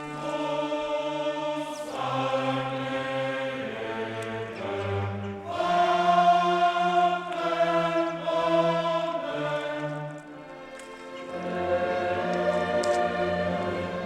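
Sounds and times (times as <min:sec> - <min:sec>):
choir singing slow chords: 0:00.0 - 0:14.0.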